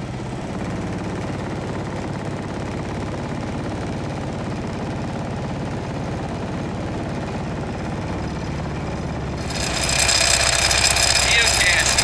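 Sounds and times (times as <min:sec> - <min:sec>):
small gas engine chugging: 0:00.0 - 0:12.0.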